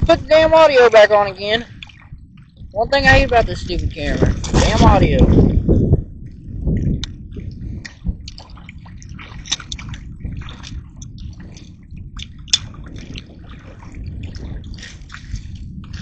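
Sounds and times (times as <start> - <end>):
low steady rumble: 0.0 - 16.0
water dripping and splashing: 0.0 - 16.0.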